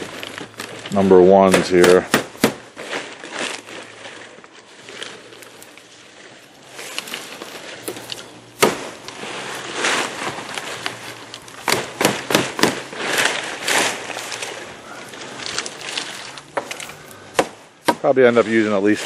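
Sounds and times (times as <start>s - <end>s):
palm fronds rustling and crackling: 0.0s - 19.0s.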